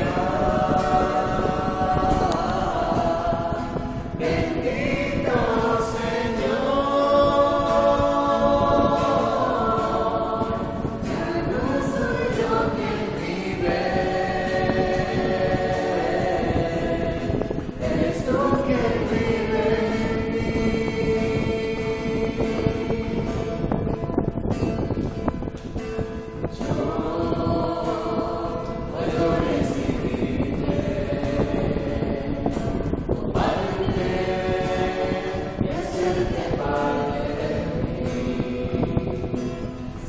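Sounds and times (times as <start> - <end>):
group singing a hymn: 0.0 - 40.0
strummed acoustic guitar: 0.0 - 40.0.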